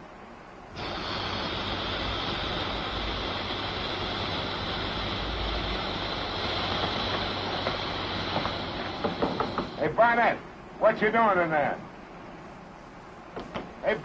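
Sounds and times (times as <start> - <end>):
ship rumble and hiss: 0.0 - 14.0.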